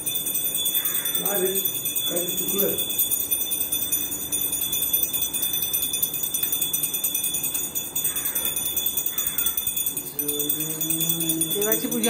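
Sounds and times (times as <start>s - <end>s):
small bell ringing rapidly: 0.0s - 12.0s.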